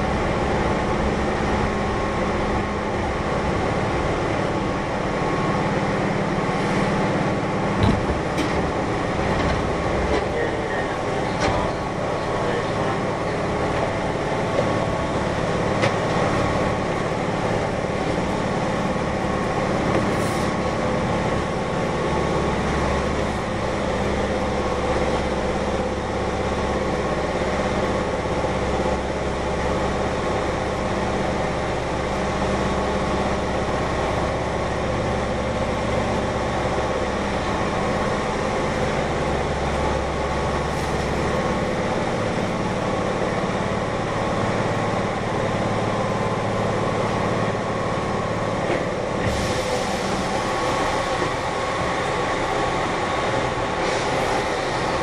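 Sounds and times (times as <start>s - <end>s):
train rolling rumble: 0.0s - 55.0s.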